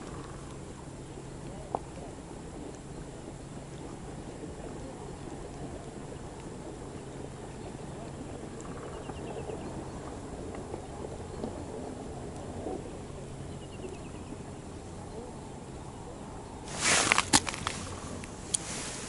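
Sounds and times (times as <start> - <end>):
low outdoor background noise: 0.0 - 19.0.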